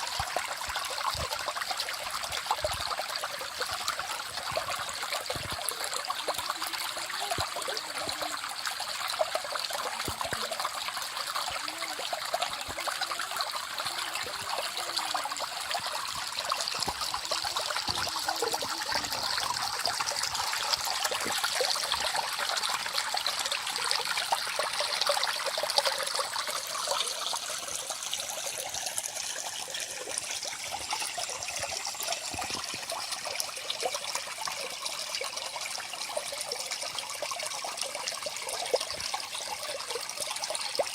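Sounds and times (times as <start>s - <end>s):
stream trickling and bubbling: 0.0s - 40.9s
water gurgling blips: 0.0s - 40.9s.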